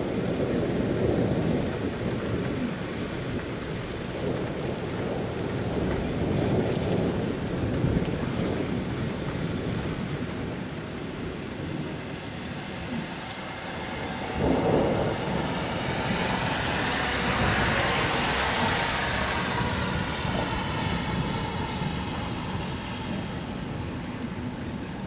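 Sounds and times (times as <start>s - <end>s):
rain on wet pavement: 0.0s - 25.0s
thunder rolling: 0.0s - 25.0s.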